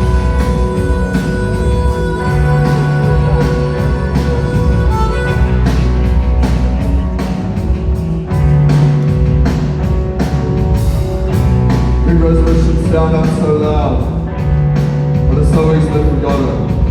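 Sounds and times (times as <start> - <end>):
bass guitar: 0.0 - 16.9
drums: 0.0 - 16.9
electric guitars: 0.0 - 16.9.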